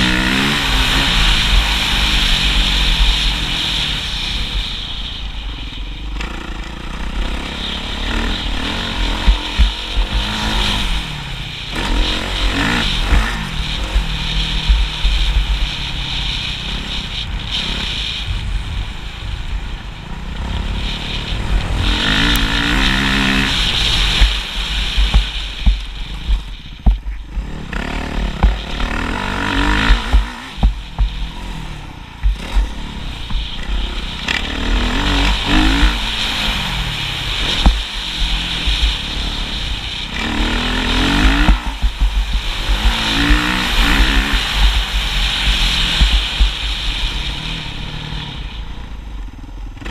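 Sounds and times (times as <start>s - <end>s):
heavy low rumble: 0.0s - 49.8s
motorcycle engine revving: 0.0s - 49.9s.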